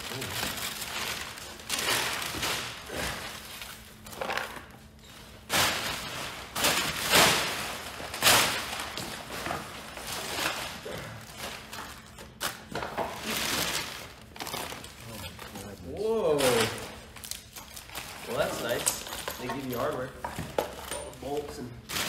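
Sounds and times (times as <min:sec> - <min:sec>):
packing paper rustling: 0:00.0 - 0:20.2.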